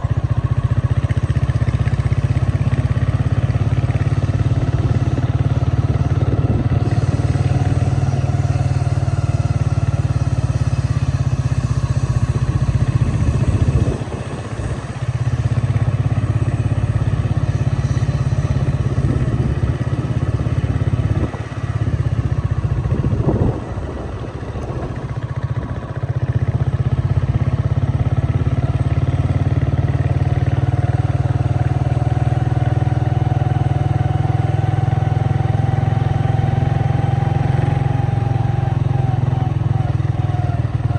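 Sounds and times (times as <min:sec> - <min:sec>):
vehicle engine rumble: 0:00.0 - 0:40.9.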